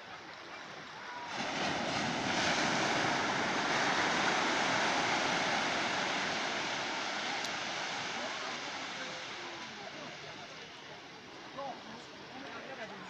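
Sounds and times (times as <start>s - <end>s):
surf breaking on beach: 0.8s - 11.7s.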